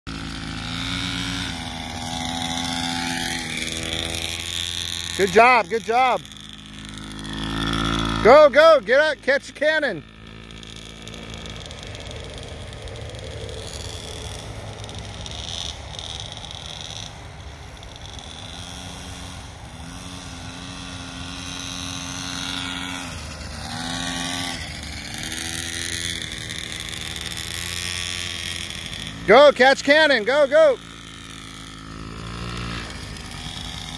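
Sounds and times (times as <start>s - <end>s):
dirt-bike engines buzzing: 0.1s - 33.9s.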